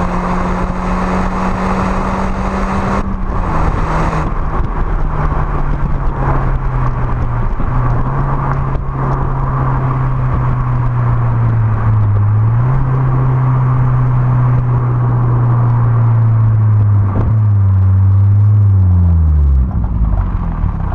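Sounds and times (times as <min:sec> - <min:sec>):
car engine exhaust note: 0:00.0 - 0:20.9.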